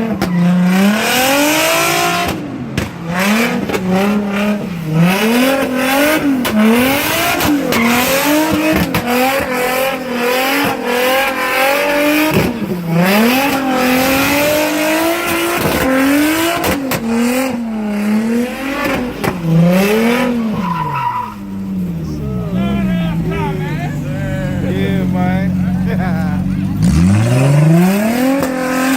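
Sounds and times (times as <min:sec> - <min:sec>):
car engine revving: 0:00.0 - 0:28.9.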